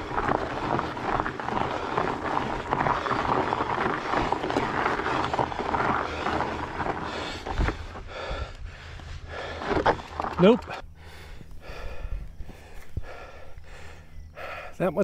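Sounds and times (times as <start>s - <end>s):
laboured breathing: 0.0s - 14.8s
bike tyres crunching over gravel: 0.0s - 15.0s.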